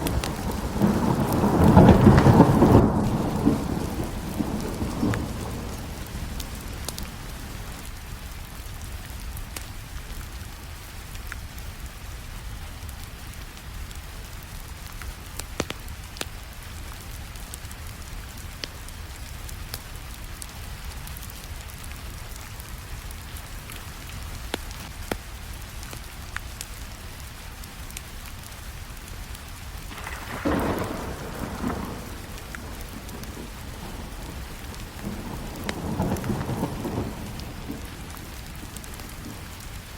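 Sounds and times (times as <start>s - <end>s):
steady rainfall: 0.0s - 39.9s
wood fire crackling: 0.0s - 39.9s.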